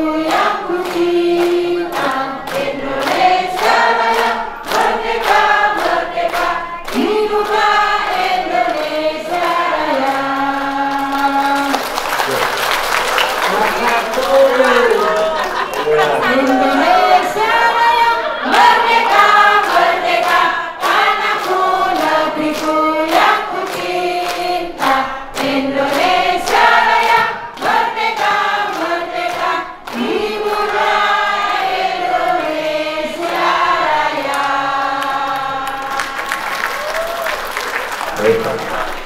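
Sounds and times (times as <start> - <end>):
elderly crowd singing: 0.0 - 12.6, 13.5 - 36.9
hands clapping: 0.2 - 17.2, 18.5 - 32.6, 33.2 - 39.0.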